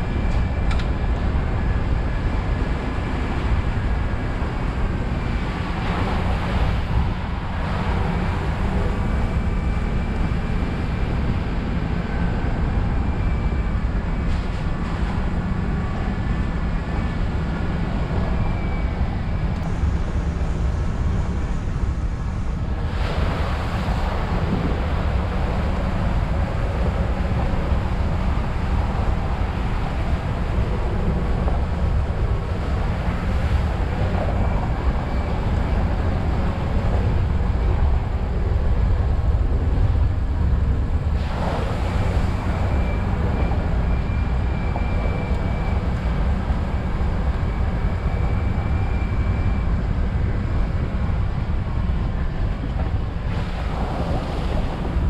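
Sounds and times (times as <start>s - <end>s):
truck rumbling on dirt trail: 0.0s - 55.0s
wind noise on microphone: 0.0s - 55.0s.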